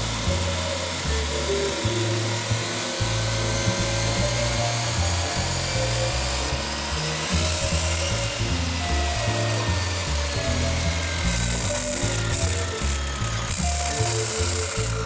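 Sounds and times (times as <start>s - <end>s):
chop saw cutting stone: 0.0s - 15.0s
music with bouncing bass line: 0.0s - 15.0s.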